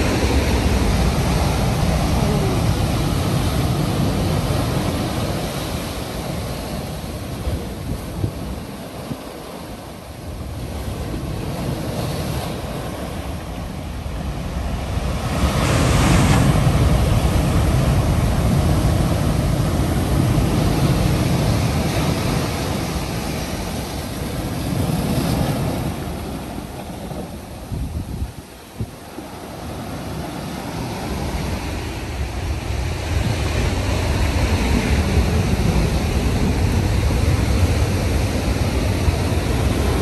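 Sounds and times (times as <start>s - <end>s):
ocean surf breaking: 0.0s - 40.0s.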